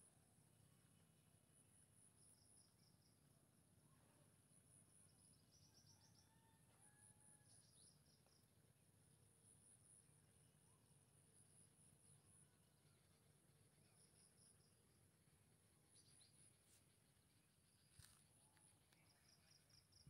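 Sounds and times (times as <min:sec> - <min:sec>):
faint bird chirps: 0:02.0 - 0:08.6, 0:09.9 - 0:20.0.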